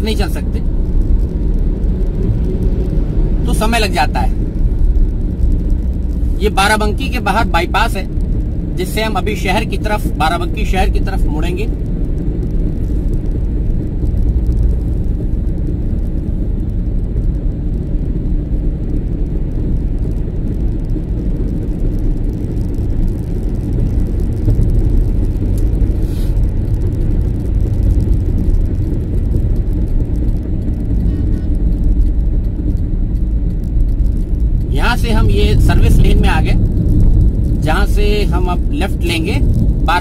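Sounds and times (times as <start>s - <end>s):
car driving at highway speed: 0.0s - 40.0s.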